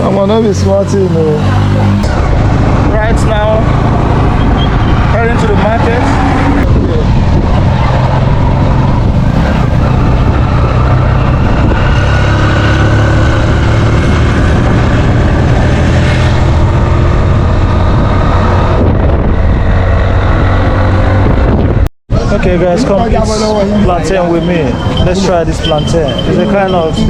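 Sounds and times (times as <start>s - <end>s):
loud road noise: 0.0s - 27.0s.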